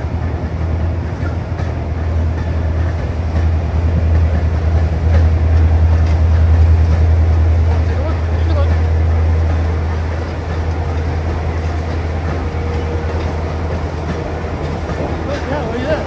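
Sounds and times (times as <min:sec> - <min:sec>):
train rumble from aboard: 0:00.0 - 0:16.0.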